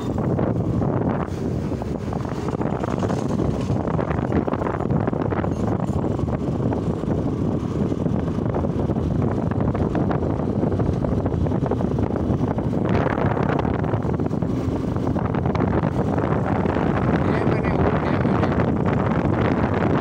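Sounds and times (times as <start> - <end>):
motorcycle engine and road rumble: 0.0 - 20.0
wind buffeting microphone: 0.0 - 20.0.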